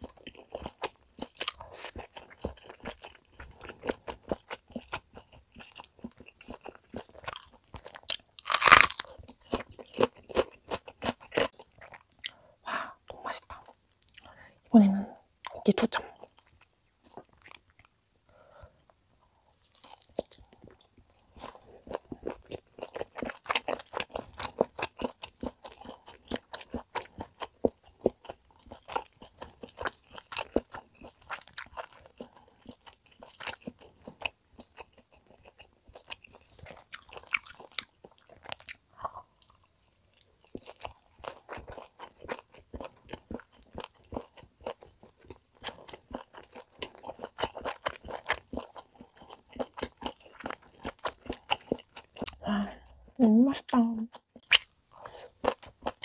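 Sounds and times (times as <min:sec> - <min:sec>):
chewing steak: 0:00.0 - 0:12.4, 0:18.8 - 0:53.2, 0:54.1 - 0:56.0.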